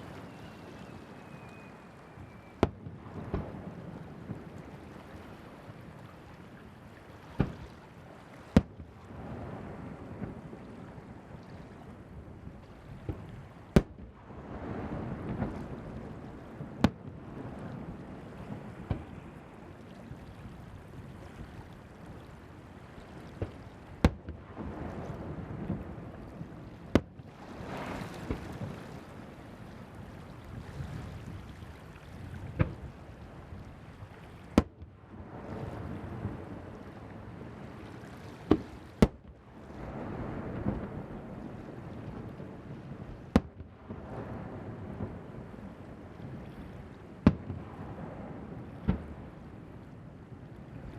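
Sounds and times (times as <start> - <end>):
surf: 0.0 - 50.9
wind on microphone: 0.0 - 50.9.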